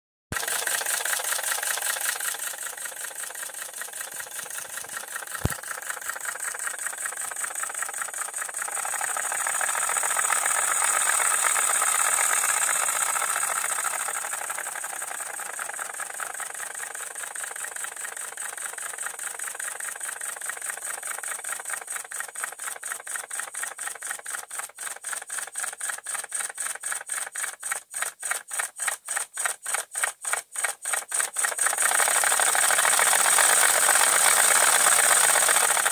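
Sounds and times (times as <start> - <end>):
model steam locomotive exhaust puffs: 0.4 - 35.9.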